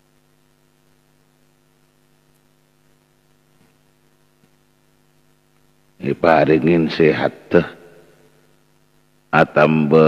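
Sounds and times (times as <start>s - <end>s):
faint mains hum: 0.0s - 10.0s.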